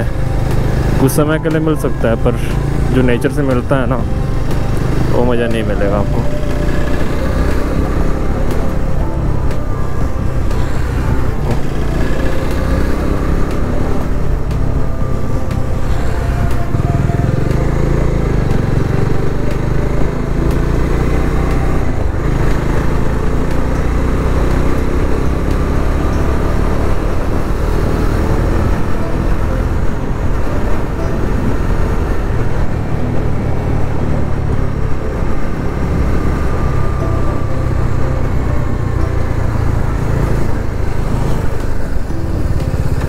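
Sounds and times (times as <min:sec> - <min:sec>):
motorcycle engine running: 0:00.0 - 0:43.0
road noise: 0:00.0 - 0:43.0.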